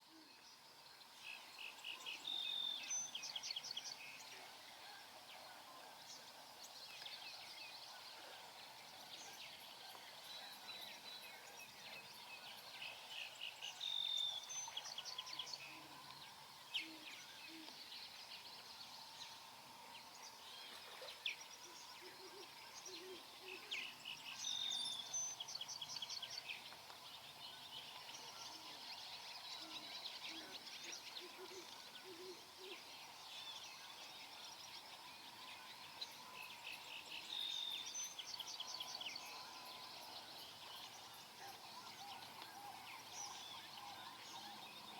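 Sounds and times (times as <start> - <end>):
songbirds singing and calling: 0.0 - 44.9
steady background hiss: 0.0 - 44.9.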